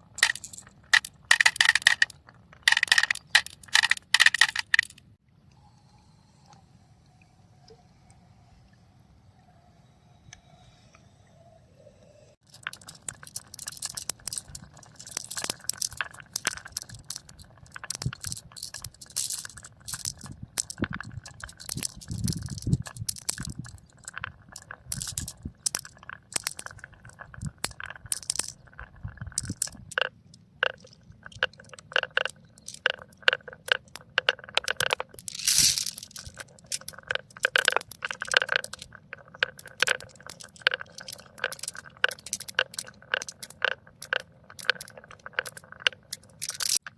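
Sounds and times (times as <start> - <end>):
marbles clacking on tracks: 0.0 - 5.0, 12.4 - 46.9.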